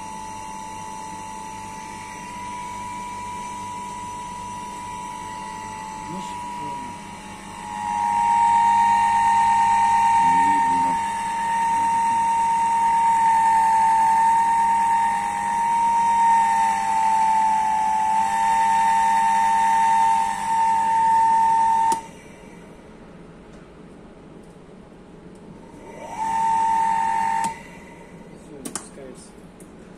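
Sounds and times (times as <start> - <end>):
electric motor whining: 0.0 - 22.2, 25.7 - 28.3.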